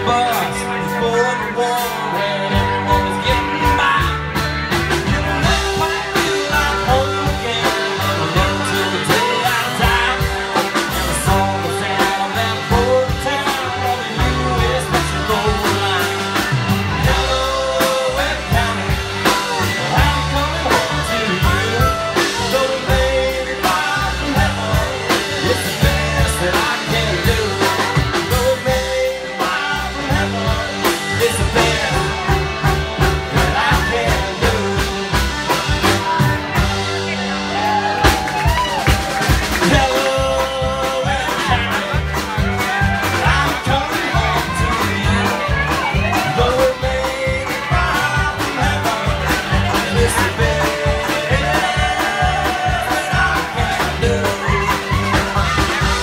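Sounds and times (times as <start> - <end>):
drum kit beat: 0.0 - 56.0
electric guitar: 0.0 - 56.0
upright bass: 0.0 - 56.0.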